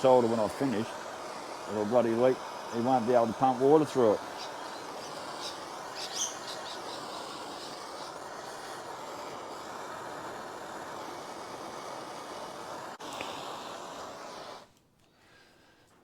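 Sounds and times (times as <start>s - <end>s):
gas torch flame roaring: 0.0s - 14.8s.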